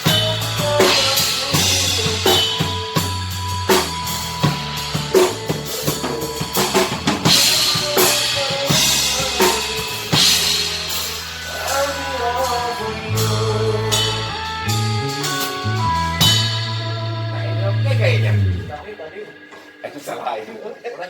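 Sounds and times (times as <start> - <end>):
electric bass low notes: 0.0 - 19.5.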